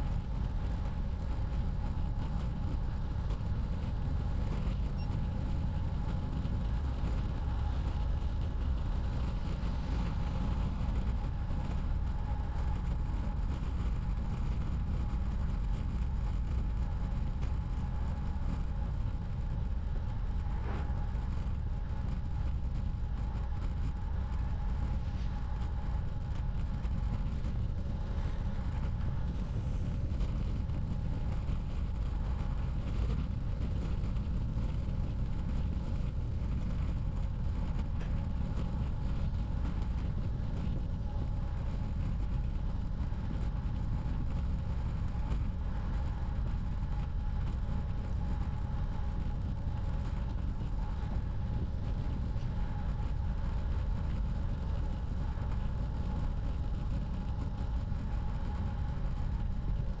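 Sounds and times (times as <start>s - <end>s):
faint constant whine: 0.0s - 60.0s
wind rumble on microphone: 0.0s - 60.0s
bicycle road noise: 6.4s - 59.9s.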